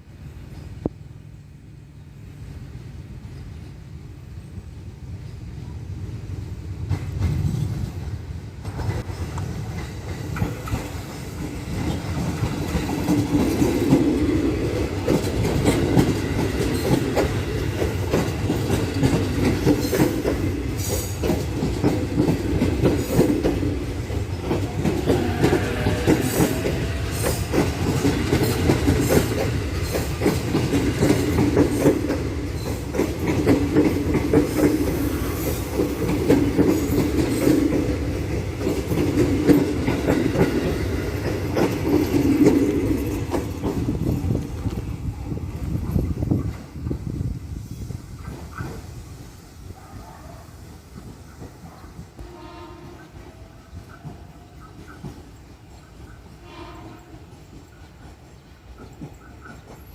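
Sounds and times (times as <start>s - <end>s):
train rolling rumble: 0.0s - 59.9s
train wheels clacking over rail joints: 6.8s - 44.9s, 48.1s - 59.9s.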